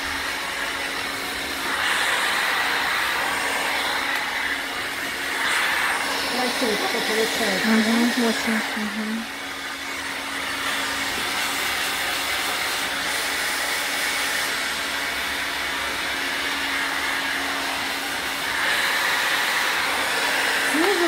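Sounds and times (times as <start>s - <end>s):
hair dryer blowing air: 0.0s - 21.0s.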